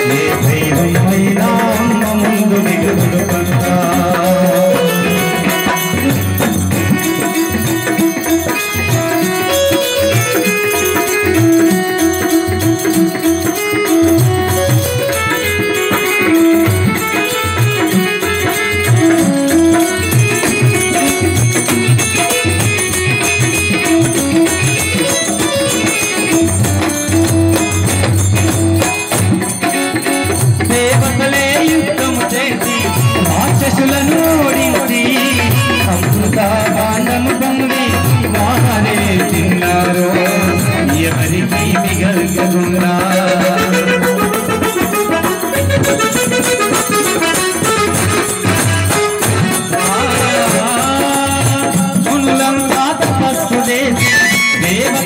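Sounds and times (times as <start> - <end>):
electronic keyboard melody: 0.0 - 55.0
hand drum rhythm: 0.0 - 55.0
jingling hand cymbals: 0.0 - 55.0.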